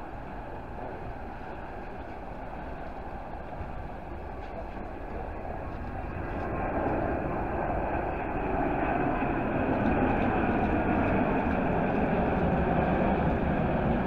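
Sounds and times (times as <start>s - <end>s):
jet airliner engine noise: 0.0s - 14.0s.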